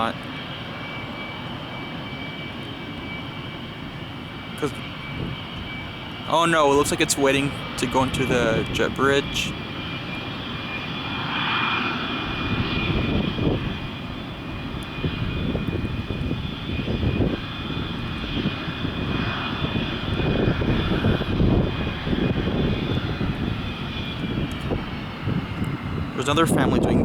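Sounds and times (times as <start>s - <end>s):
jet engines whining: 0.0s - 27.0s.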